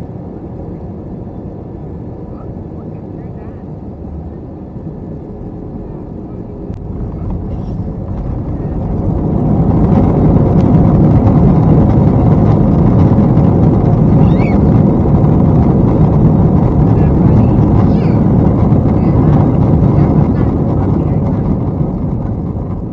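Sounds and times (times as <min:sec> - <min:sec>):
airplane cabin engine roar: 0:00.0 - 0:22.9.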